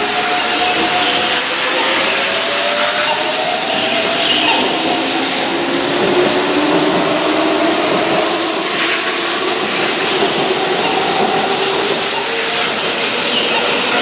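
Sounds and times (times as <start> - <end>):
train rushing past: 0.0 - 14.0.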